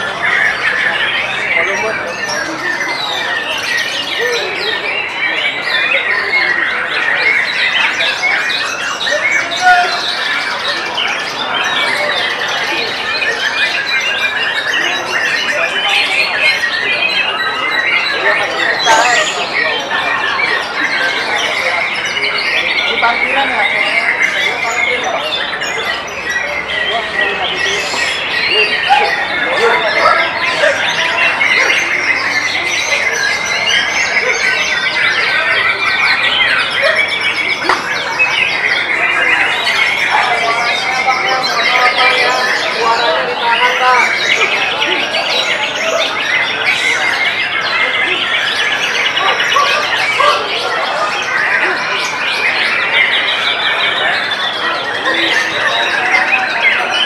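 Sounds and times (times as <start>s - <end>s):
songbirds singing in chorus: 0.0s - 57.0s.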